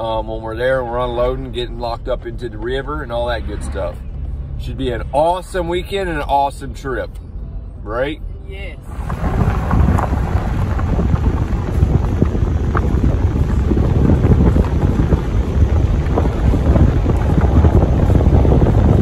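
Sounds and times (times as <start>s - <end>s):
car tyres rolling on gravel: 0.0s - 7.1s, 8.8s - 19.0s.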